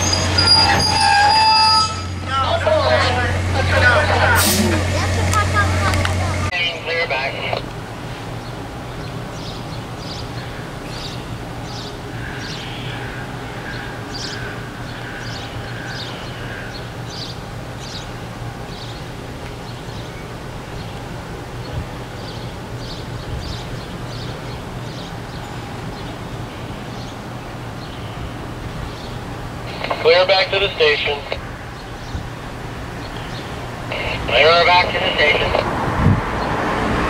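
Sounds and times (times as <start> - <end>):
diesel locomotive idling: 0.0 - 36.6
birds chirping: 0.0 - 37.0.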